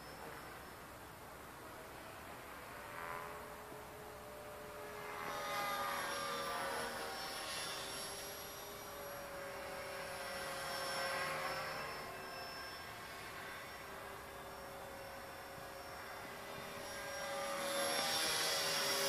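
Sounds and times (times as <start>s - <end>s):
rc helicopter motor and rotor whine: 0.0s - 19.0s.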